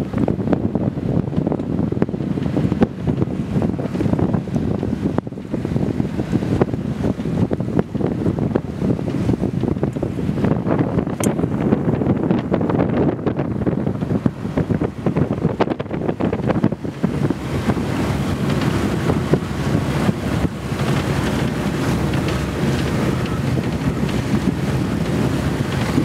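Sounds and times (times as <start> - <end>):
choppy water rushing: 0.0 - 26.0
wind buffeting microphone: 0.0 - 26.0.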